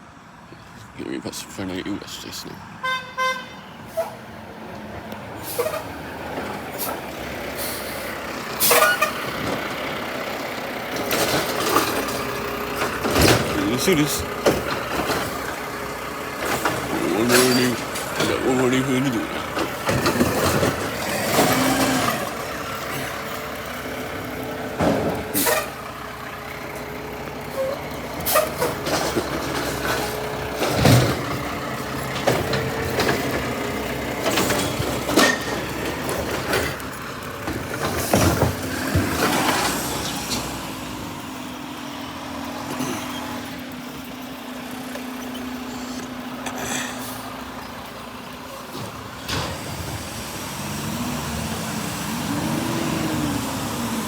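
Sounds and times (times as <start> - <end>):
garbage truck machinery hum: 2.5 - 54.0.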